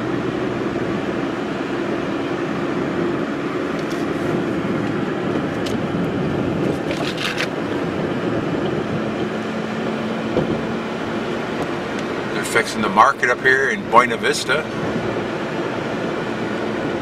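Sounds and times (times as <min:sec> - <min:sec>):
road and engine noise inside vehicle: 0:00.0 - 0:17.0.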